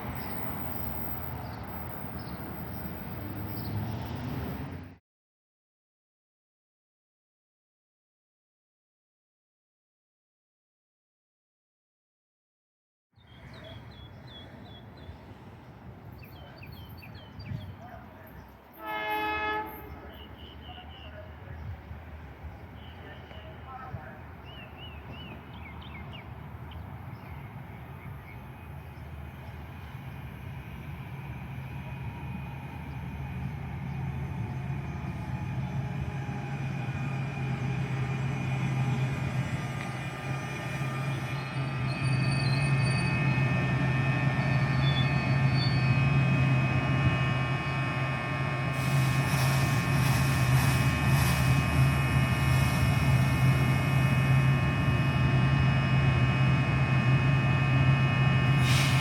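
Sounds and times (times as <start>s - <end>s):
train approaching on rails: 0.0s - 5.0s, 13.2s - 59.0s.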